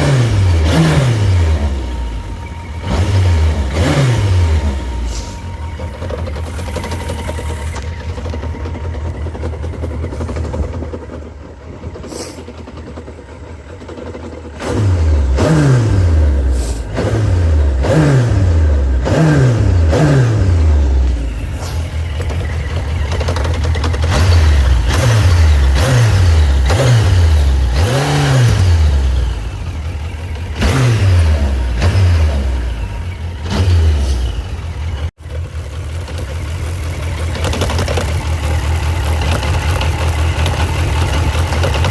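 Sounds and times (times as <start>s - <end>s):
engine revving: 0.0s - 41.9s
motorcycle engine idling: 0.0s - 41.9s.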